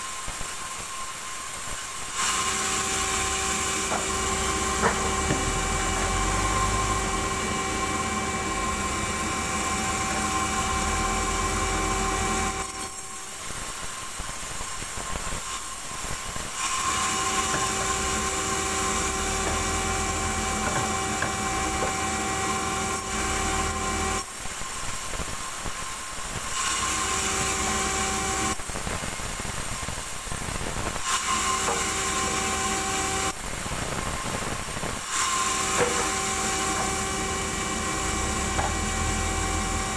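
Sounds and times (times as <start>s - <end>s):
band saw whine: 0.8s - 29.8s, 30.6s - 39.9s.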